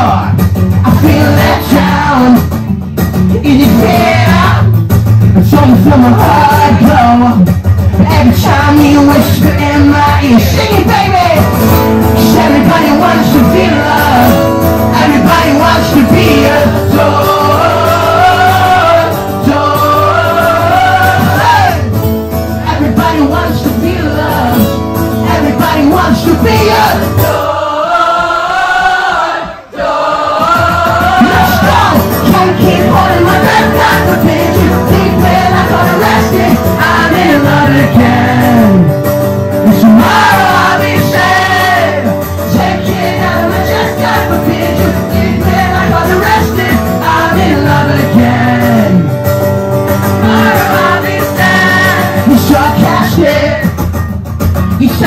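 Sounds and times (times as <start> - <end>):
acoustic guitar: 0.0 - 55.0.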